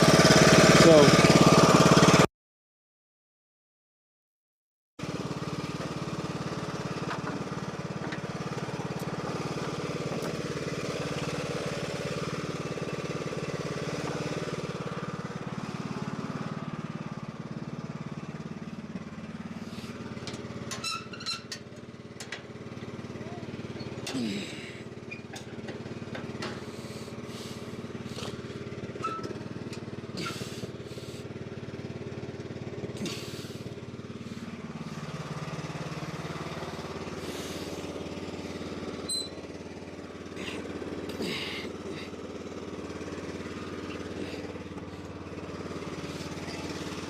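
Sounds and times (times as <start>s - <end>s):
riding mower engine running: 0.0s - 2.3s, 5.0s - 47.0s.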